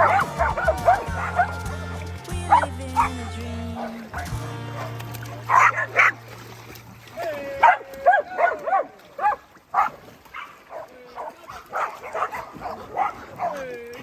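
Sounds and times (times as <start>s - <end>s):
dogs barking: 0.0s - 6.4s, 7.6s - 13.7s.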